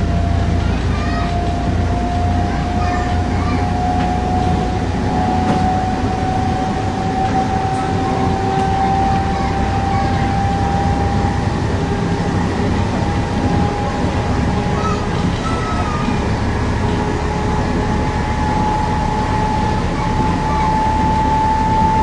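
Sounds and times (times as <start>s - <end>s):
train rumbling with whine: 0.0s - 22.0s.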